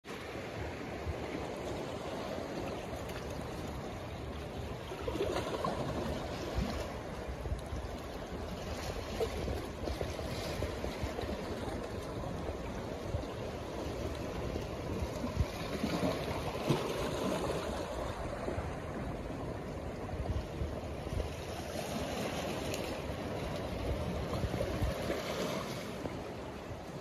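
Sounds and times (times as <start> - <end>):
water lapping against rocks: 0.3 - 27.0.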